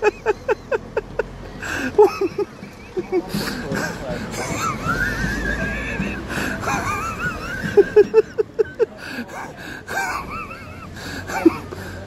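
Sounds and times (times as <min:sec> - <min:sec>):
person laughing under breath: 0:00.0 - 0:12.0.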